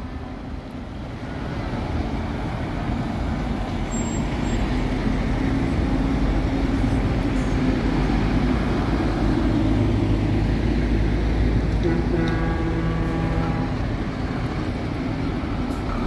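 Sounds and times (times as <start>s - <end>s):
truck diesel engines passing: 0.0s - 16.0s.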